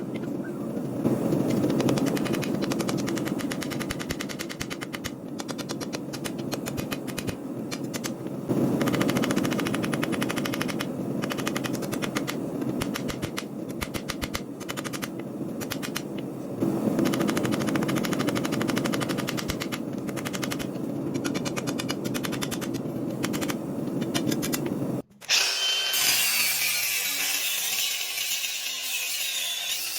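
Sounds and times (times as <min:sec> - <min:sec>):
steady running hum: 0:00.0 - 0:25.0.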